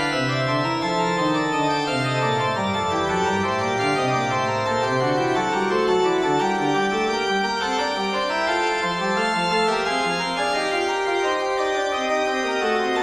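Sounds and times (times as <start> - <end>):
organ sustained chords: 0.0 - 13.0.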